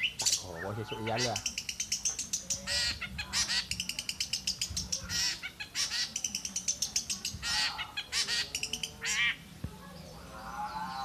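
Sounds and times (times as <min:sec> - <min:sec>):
bird warbling: 0:00.0 - 0:09.5
songbirds chirping: 0:00.0 - 0:11.0.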